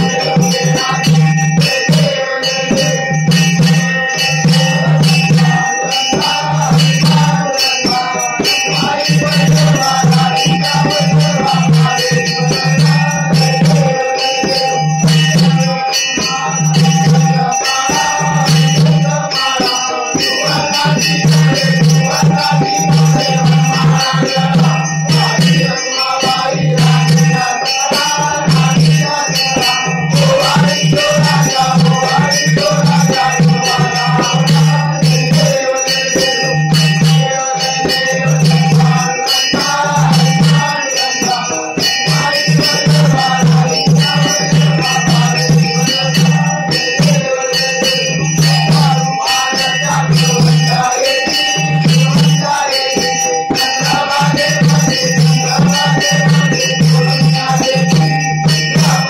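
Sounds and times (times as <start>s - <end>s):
fast jingling percussion: 0.0s - 59.0s
group singing a hymn: 0.0s - 59.0s
steady ringing tones: 0.0s - 59.0s.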